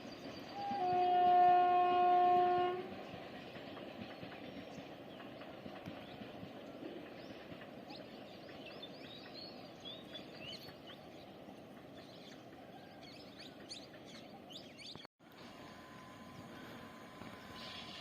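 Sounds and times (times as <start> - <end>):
birds chirping: 3.0 - 18.0.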